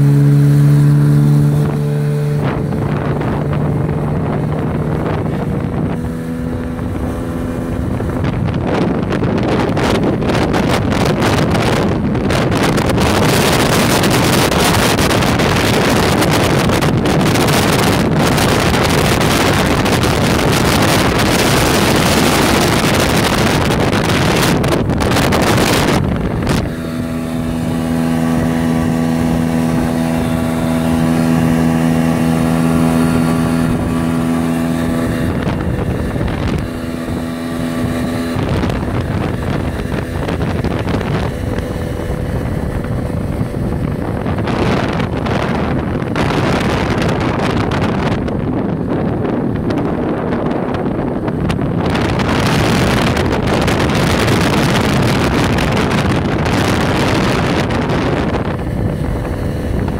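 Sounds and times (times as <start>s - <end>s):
outboard motor running: 0.0s - 59.9s
wind noise on microphone: 0.0s - 59.9s.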